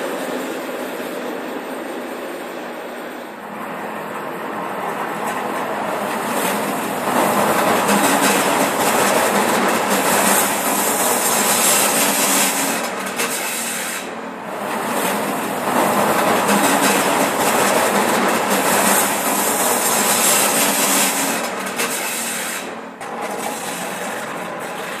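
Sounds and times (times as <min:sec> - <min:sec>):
railcar passing: 0:00.0 - 0:24.9.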